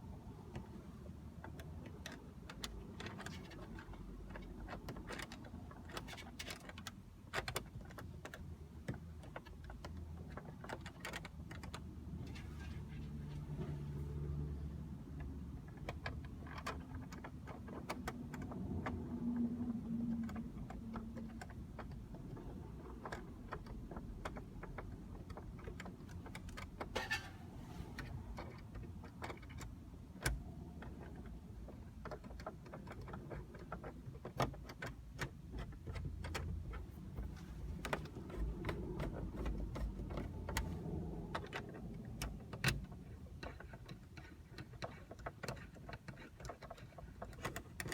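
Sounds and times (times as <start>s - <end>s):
light clicks and ticks: 0.2s - 27.1s, 28.0s - 47.9s.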